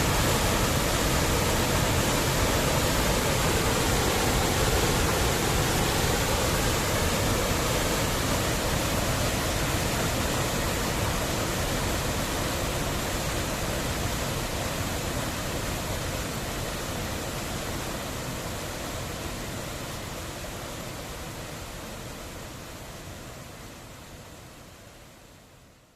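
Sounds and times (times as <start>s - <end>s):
waterfall rushing: 0.0s - 24.4s.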